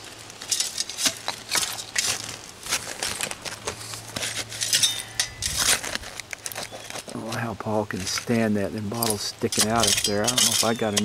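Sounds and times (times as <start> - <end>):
hand tool scraping into soil: 0.4 - 11.0.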